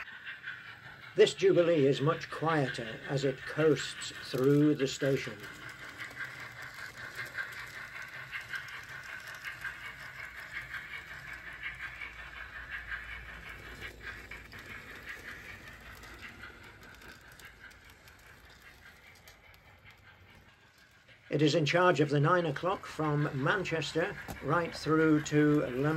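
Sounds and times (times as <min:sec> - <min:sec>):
fast rattle of model train wheels: 0:00.0 - 0:25.9.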